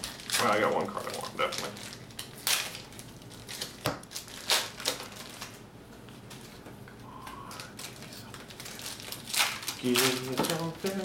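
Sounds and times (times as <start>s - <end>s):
foil wrappers crinkling: 0.0s - 5.6s, 7.4s - 11.0s.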